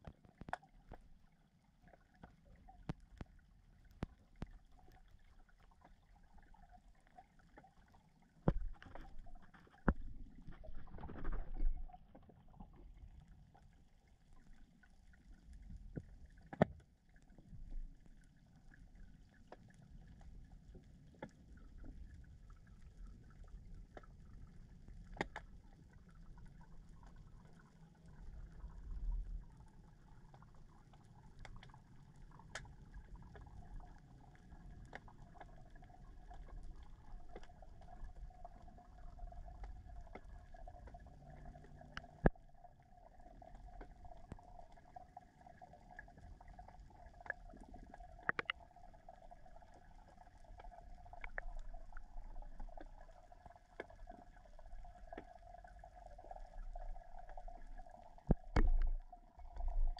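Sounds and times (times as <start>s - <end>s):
faint steady hum: 0.0s - 59.9s
low underwater rumble: 0.0s - 59.9s.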